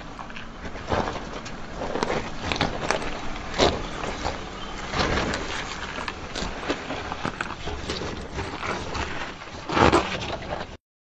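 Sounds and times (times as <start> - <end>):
tyres crunching over rock and gravel: 0.0 - 10.8.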